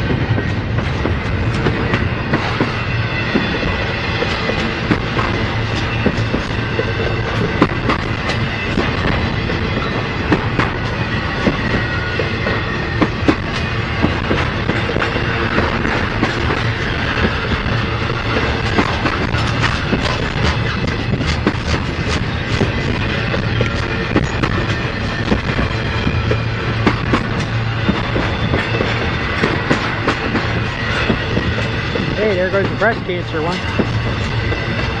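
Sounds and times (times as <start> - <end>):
train rumble: 0.0 - 35.0
train wheels clacking on rail joints: 0.0 - 35.0.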